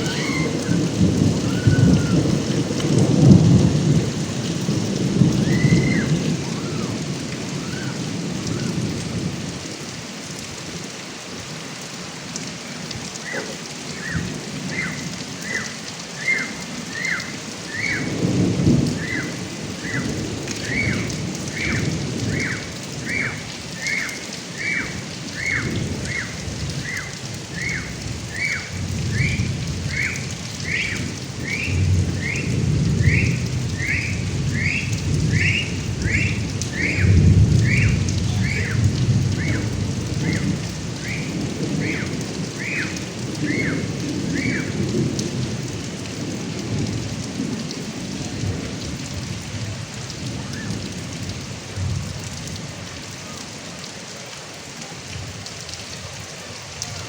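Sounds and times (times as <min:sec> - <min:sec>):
thunder rumbling: 0:00.0 - 0:09.8, 0:13.0 - 0:52.3
heavy rain pouring: 0:00.0 - 0:57.0.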